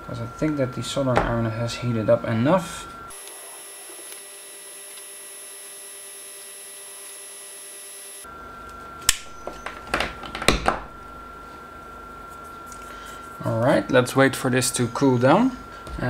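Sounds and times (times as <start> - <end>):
soft hum: 0.0 - 16.0.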